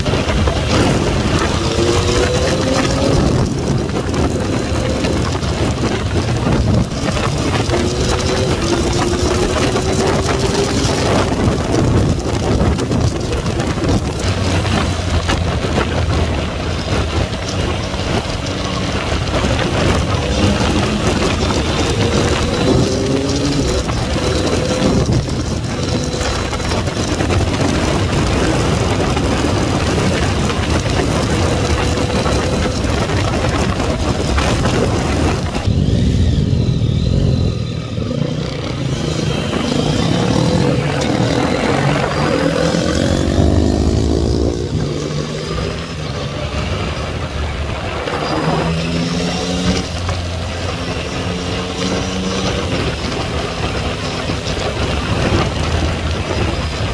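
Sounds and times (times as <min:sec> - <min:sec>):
motorcycle engine revving: 0:00.0 - 0:56.9
wind noise on microphone: 0:00.0 - 0:56.9.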